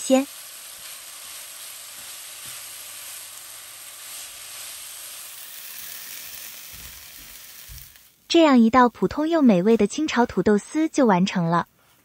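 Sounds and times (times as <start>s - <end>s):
potato sizzling in a frying pan: 0.0s - 11.4s.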